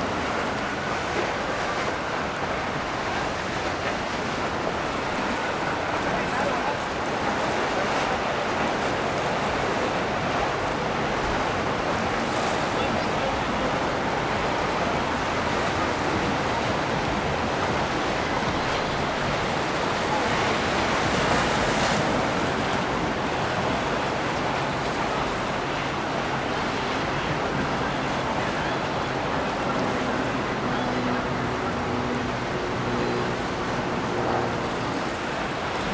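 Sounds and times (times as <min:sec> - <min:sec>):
low boat engine hum: 0:00.0 - 0:35.9
rushing water: 0:00.0 - 0:35.9
wind: 0:00.0 - 0:35.9.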